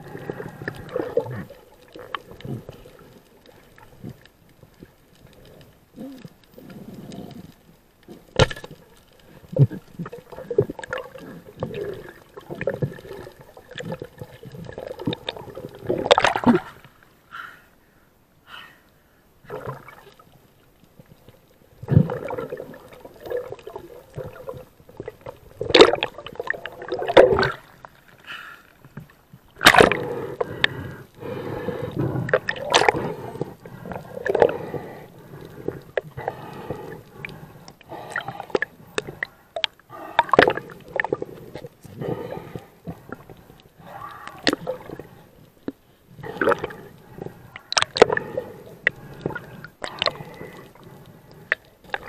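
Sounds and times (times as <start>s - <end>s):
water gurgling and sloshing: 0.0s - 17.3s, 19.4s - 52.0s.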